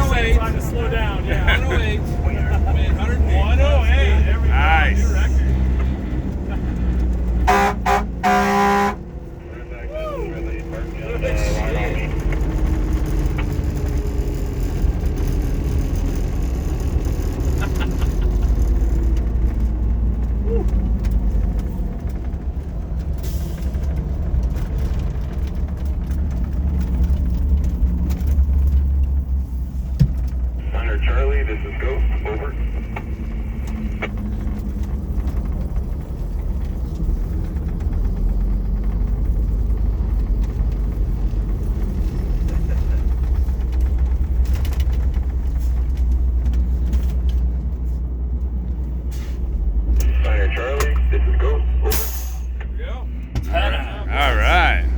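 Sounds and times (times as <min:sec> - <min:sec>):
fire truck engine rumble: 0:00.0 - 0:54.9.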